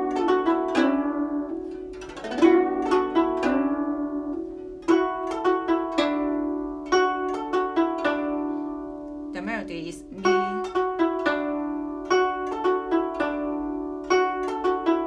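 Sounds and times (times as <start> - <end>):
guzheng plucked notes: 0.0 - 15.0.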